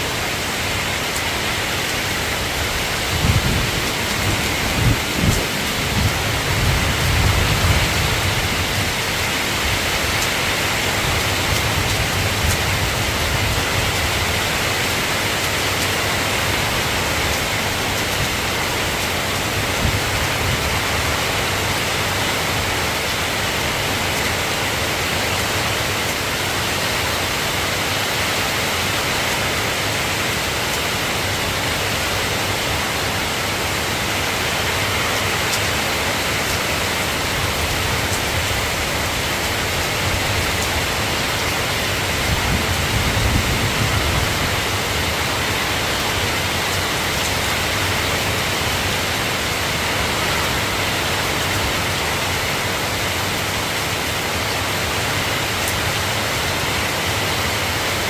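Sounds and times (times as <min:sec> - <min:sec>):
soft rain falling: 0:00.0 - 0:58.0.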